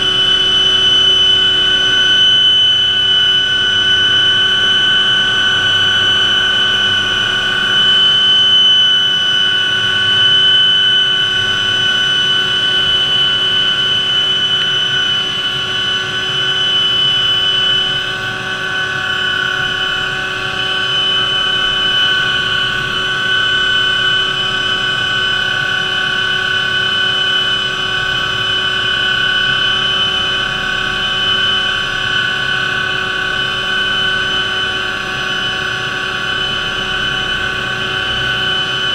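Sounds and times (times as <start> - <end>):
helicopter rotor rush: 0.0 - 38.9
helicopter turbine whine: 0.0 - 38.9.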